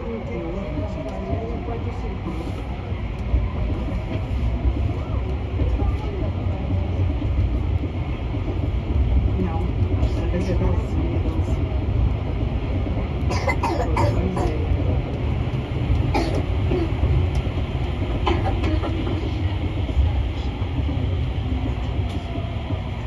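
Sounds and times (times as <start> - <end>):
train rumbling through tunnel: 0.0 - 23.0.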